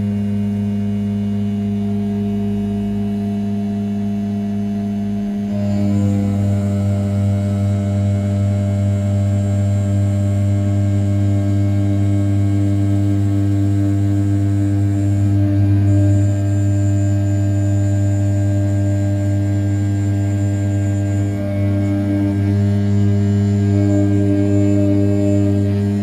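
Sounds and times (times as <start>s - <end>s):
mill spindle humming: 4.9s - 26.0s.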